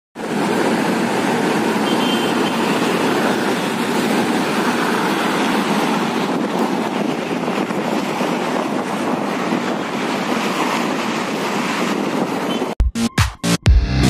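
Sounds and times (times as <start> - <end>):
outdoor city ambience: 0.2 - 14.0.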